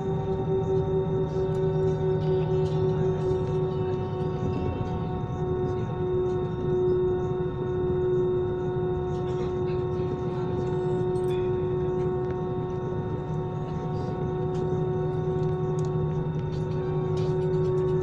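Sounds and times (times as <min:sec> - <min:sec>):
jet engines whining: 0:00.0 - 0:18.0.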